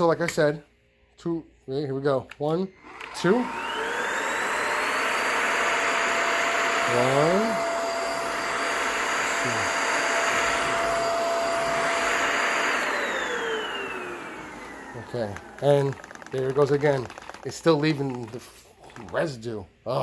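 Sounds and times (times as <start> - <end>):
stick vacuum motor whine: 2.7 - 19.5.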